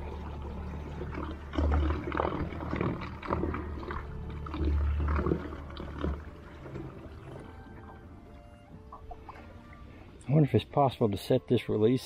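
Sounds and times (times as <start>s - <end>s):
propeller churning water: 0.0s - 12.0s.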